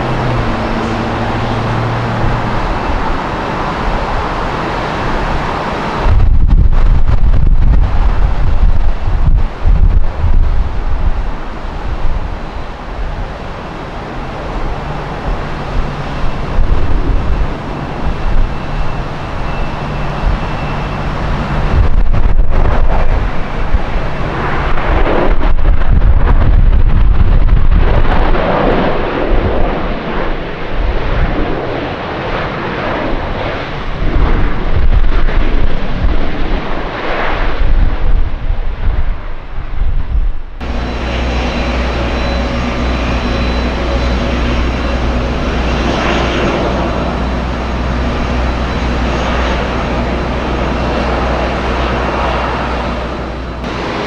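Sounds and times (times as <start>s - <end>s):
jet engine noise: 0.0s - 54.0s
wind buffeting microphone: 0.0s - 54.0s.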